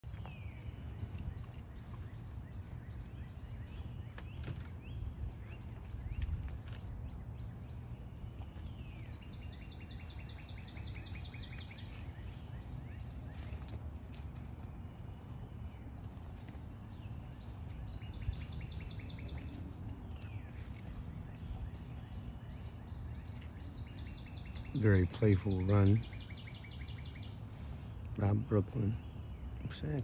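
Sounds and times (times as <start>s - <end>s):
songbird chirps: 0.0s - 30.0s.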